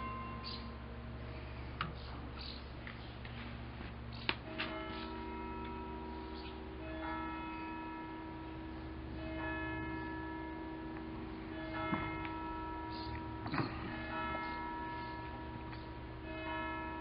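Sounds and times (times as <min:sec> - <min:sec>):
bell-like chimes ringing: 0:00.0 - 0:01.4, 0:04.5 - 0:17.0
low steady hum: 0:00.0 - 0:17.0.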